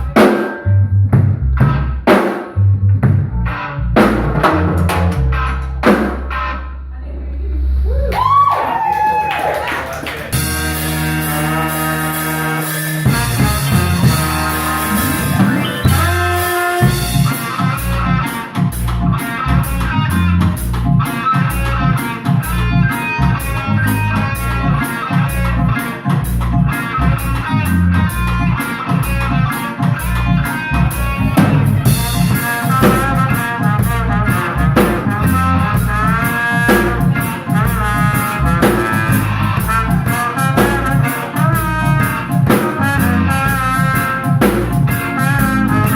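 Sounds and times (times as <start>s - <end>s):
live band playing: 0.0s - 45.9s.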